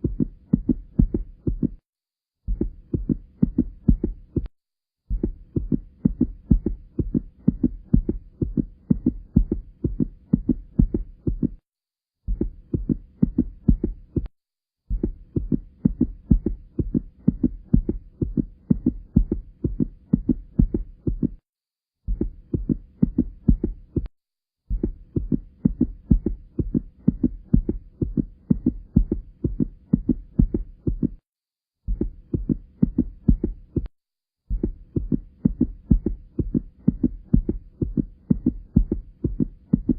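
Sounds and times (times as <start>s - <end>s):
fast heartbeat thumps: 0.0s - 1.8s, 2.4s - 11.6s, 12.2s - 21.4s, 22.0s - 39.9s.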